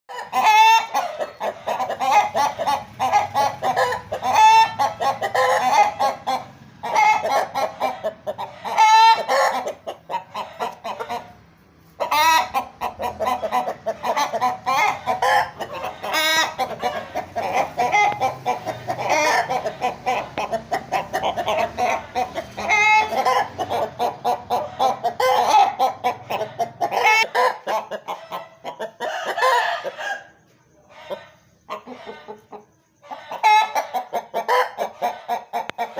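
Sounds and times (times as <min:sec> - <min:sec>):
chickens clucking: 0:00.1 - 0:35.9.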